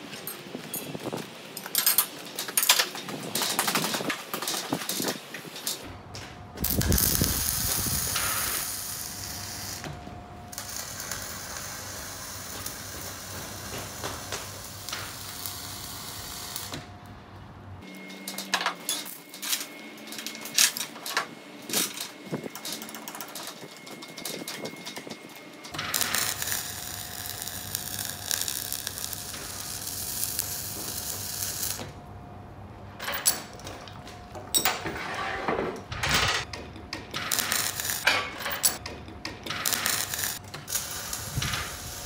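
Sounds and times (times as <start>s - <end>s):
low machine hum with hiss: 4.9s - 42.0s.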